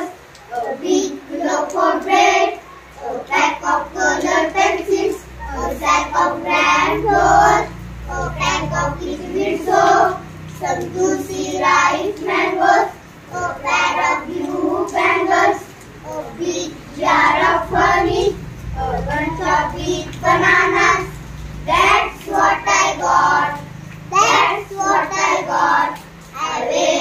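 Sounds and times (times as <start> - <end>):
children chanting a poem: 0.0 - 27.0.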